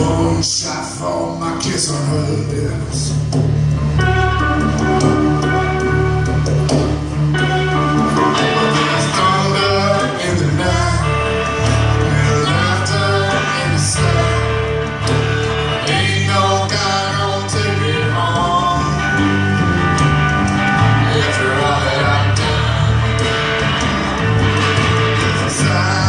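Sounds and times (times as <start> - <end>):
blues-rock band playing live: 0.0 - 26.0
guitar: 0.0 - 26.0.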